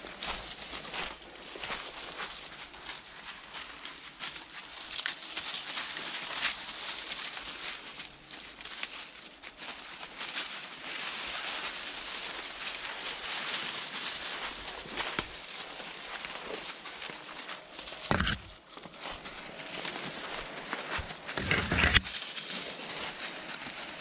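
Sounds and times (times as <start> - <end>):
footsteps through undergrowth: 0.0 - 24.0
rustling leaves and brush: 0.0 - 24.0.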